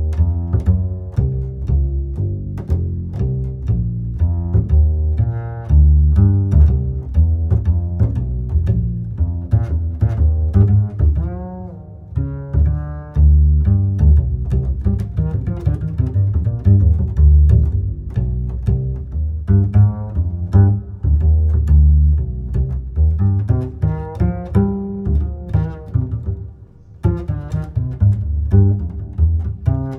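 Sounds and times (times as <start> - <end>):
heavy bass line: 0.0 - 29.9
plucked and bowed string notes: 0.0 - 29.9.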